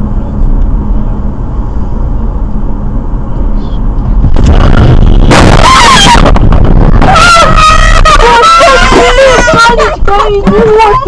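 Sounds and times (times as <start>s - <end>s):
car road rumble inside cabin: 0.0s - 11.0s.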